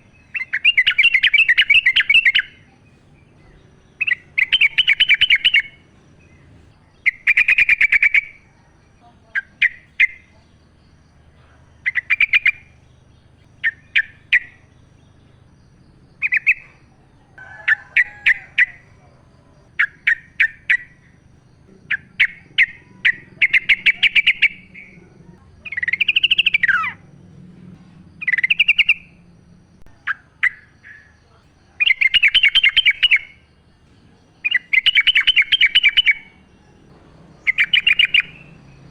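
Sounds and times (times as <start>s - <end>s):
bird chattering song: 0.0s - 27.2s, 28.1s - 38.9s.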